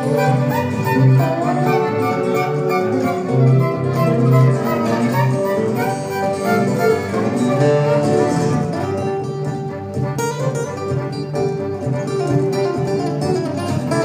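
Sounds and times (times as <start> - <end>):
fiddle playing: 0.0 - 14.0
strummed acoustic guitars: 0.0 - 14.0.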